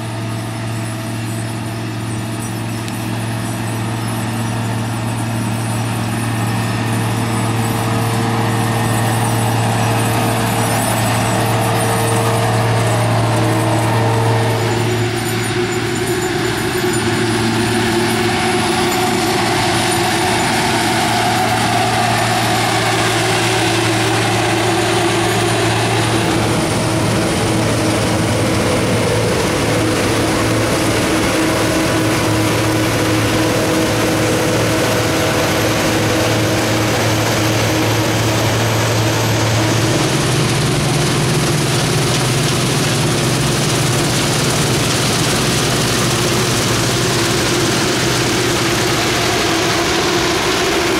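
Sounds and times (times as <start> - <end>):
broad mechanical whir: 0.0 - 50.9
diesel engine running under load: 0.0 - 50.9.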